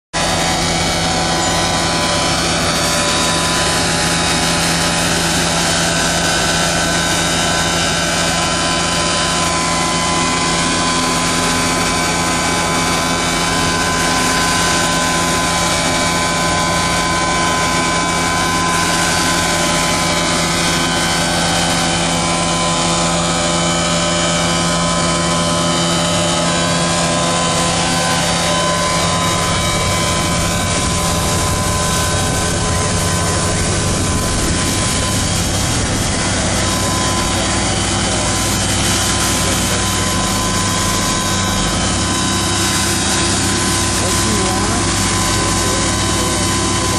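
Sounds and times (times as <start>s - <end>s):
tractor engine droning and whining: 0.1s - 46.9s.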